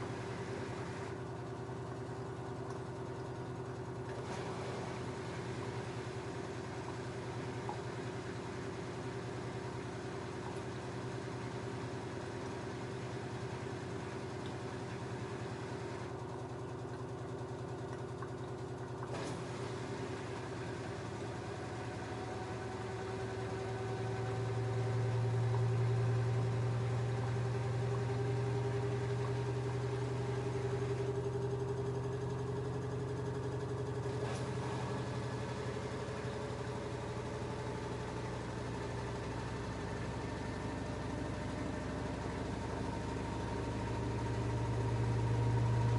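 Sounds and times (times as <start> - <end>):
washing machine motor hum: 0.0 - 45.9.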